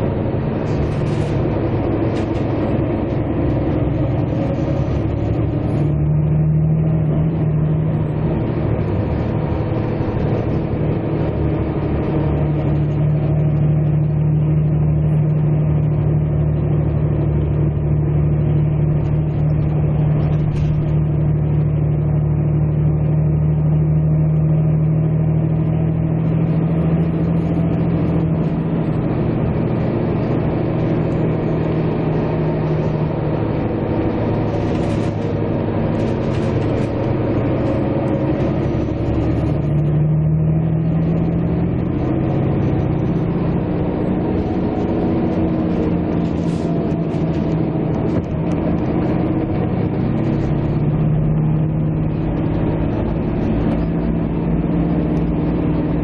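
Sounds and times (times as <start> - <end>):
vehicle engine droning: 0.0 - 56.0.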